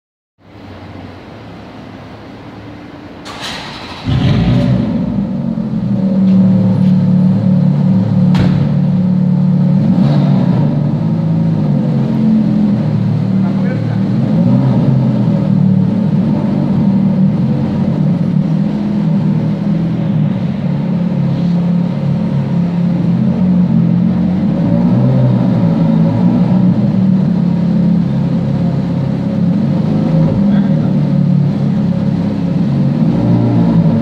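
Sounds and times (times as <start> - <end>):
car engine idling: 0.4 - 34.0.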